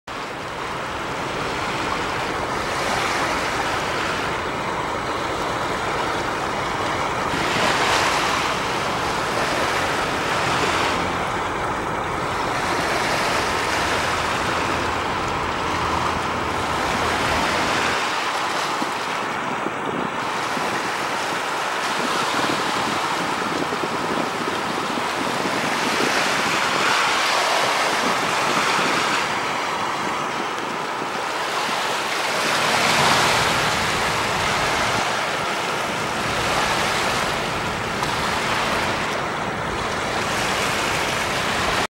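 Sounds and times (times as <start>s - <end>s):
rushing water: 0.0s - 41.9s
wind rumble on microphone: 0.1s - 41.9s.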